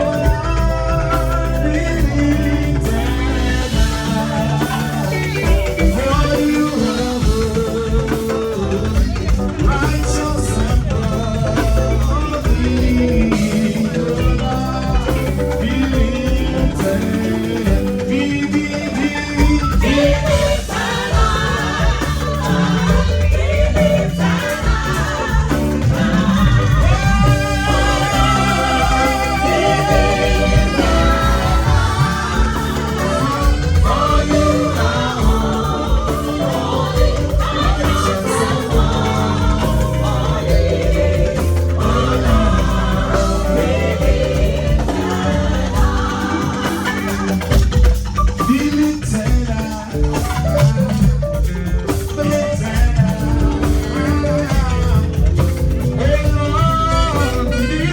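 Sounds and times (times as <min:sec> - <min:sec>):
heavy bass line: 0:00.0 - 0:49.6
gospel singing: 0:00.0 - 0:57.9.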